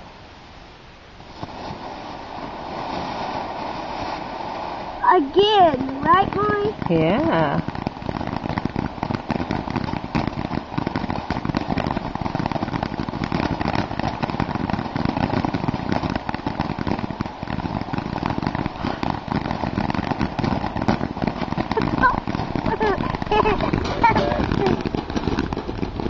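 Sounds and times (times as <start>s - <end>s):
firework crackling: 0.0s - 26.0s.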